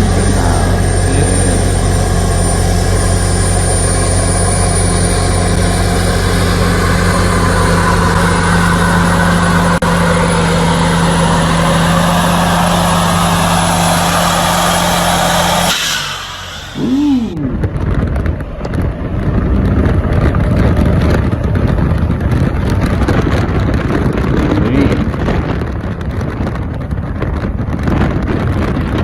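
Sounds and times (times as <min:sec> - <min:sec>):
truck engine idling: 0:00.0 - 0:23.8.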